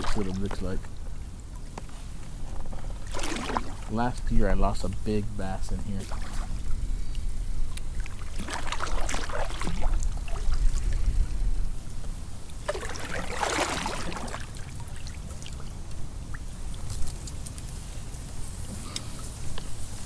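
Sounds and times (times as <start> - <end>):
water splashing against a kayak: 0.0 - 20.0
wind rumbling on microphone: 0.0 - 20.0.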